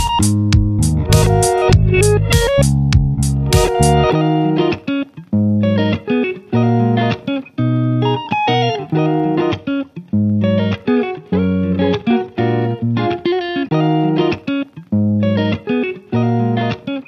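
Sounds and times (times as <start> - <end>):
plucked guitar chords: 0.0 - 17.0.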